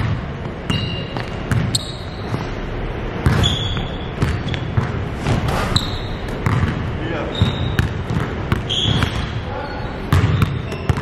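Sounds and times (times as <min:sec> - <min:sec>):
basketball bouncing on wooden floor: 0:00.0 - 0:02.5, 0:03.2 - 0:09.4, 0:10.1 - 0:11.0
sneakers squeaking on court: 0:00.0 - 0:11.0.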